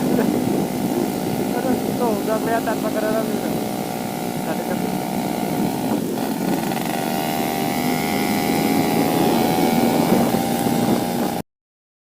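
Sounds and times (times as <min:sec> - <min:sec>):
two-stroke motorcycle engine running: 0:00.0 - 0:11.4
wind and road rush: 0:00.0 - 0:11.4.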